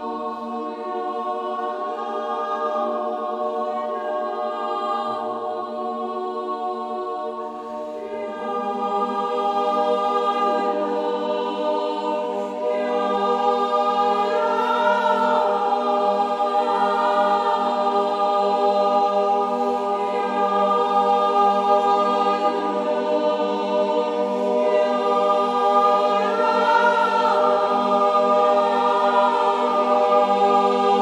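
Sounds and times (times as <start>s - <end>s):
choir singing sustained chords: 0.0s - 31.0s.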